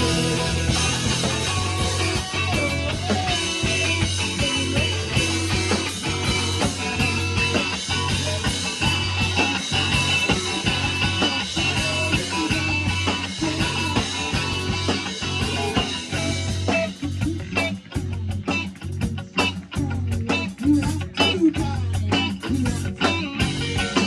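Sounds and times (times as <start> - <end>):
electric guitar: 0.0 - 24.0
heavy bass line: 0.0 - 24.0
steady drum beat: 0.0 - 24.0.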